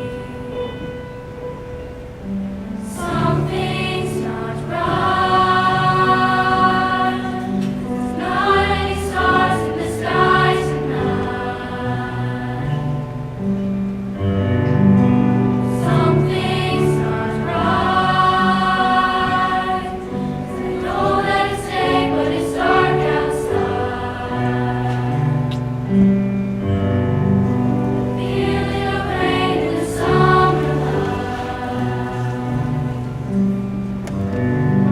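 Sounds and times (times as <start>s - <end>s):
long held chords: 0.0s - 34.9s
slow choir-like singing: 2.2s - 34.9s.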